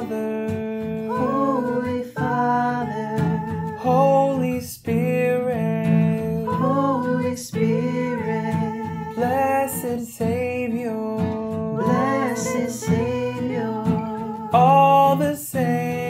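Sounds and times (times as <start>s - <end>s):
acoustic guitar strumming: 0.0s - 16.0s
voices singing together: 0.0s - 16.0s.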